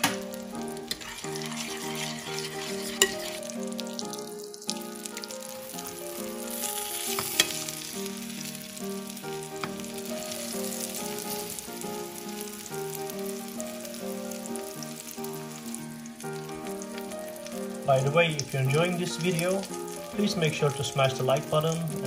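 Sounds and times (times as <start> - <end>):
background music with melody: 0.0 - 22.0
fish sizzling in oil: 0.0 - 22.0.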